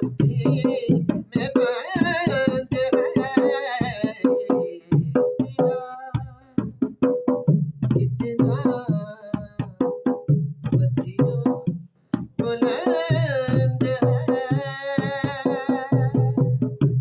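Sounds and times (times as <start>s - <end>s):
man singing: 0.0s - 6.8s, 7.8s - 11.7s, 12.4s - 17.0s
quick drum beat: 0.0s - 17.0s.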